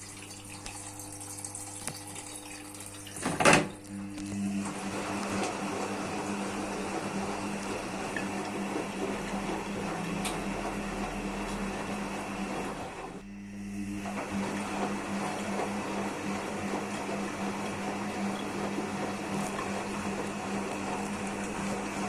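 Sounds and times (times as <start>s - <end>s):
washing machine hum and rushing: 0.0s - 22.0s.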